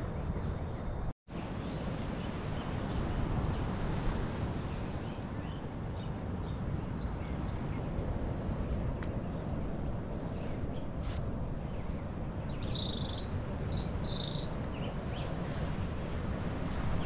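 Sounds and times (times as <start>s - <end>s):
low rushing outdoor noise: 0.0s - 17.0s.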